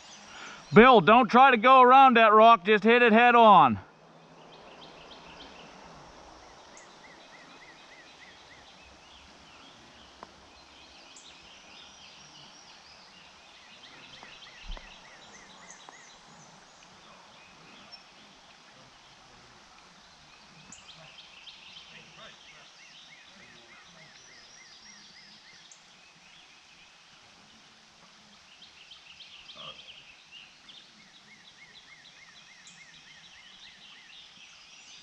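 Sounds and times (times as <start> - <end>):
songbirds calling and trilling: 0.0 - 1.0, 3.9 - 35.0
faint steady hiss: 0.0 - 35.0.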